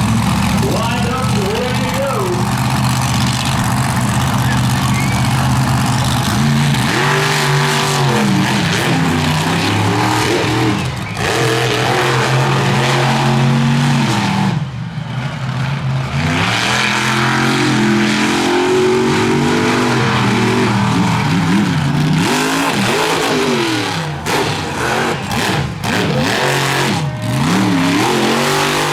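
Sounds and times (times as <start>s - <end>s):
monster truck engines revving: 0.0s - 28.9s.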